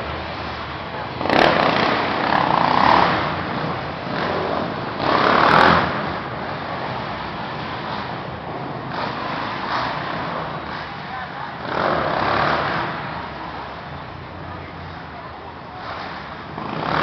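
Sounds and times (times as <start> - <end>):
quad engine revving: 0.0 - 13.8, 15.8 - 17.0.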